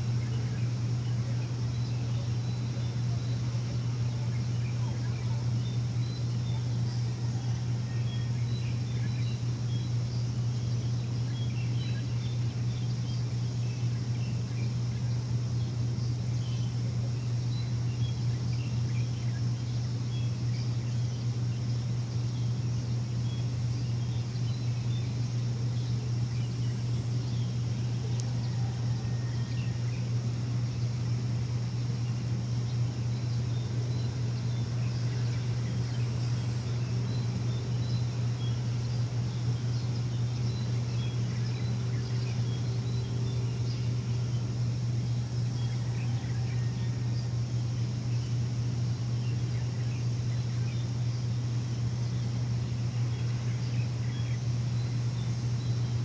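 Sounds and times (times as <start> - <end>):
low machine hum: 0.0 - 56.0
small birds chirping: 0.0 - 56.0.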